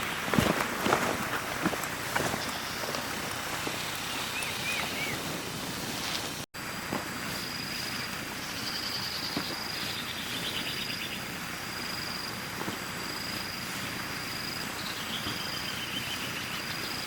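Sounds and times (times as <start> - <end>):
background hiss: 0.0 - 17.0
insects trilling: 0.1 - 5.4, 6.6 - 17.0.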